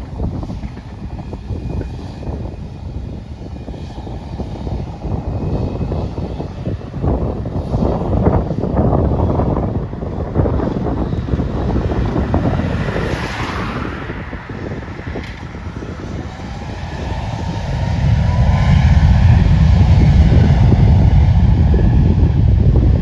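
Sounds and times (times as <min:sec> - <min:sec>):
jet engine rumble: 0:00.0 - 0:23.0
wind buffeting microphone: 0:00.0 - 0:23.0.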